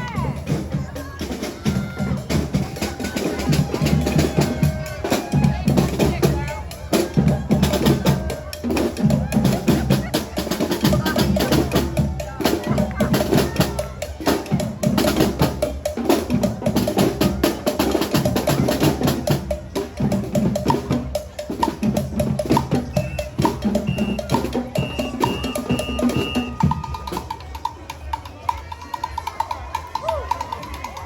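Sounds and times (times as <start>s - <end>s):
percussion-heavy music with drums: 0.0s - 31.0s.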